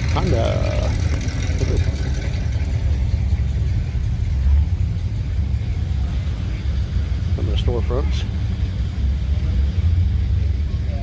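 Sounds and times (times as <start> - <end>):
low car engine rumble: 0.0 - 11.0.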